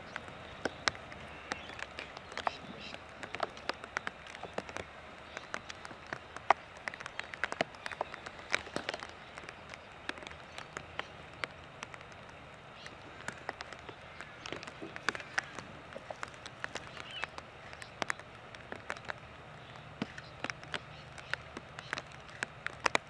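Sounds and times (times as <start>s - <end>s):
rain falling: 0.0s - 23.0s
raindrop ticks: 0.0s - 23.0s.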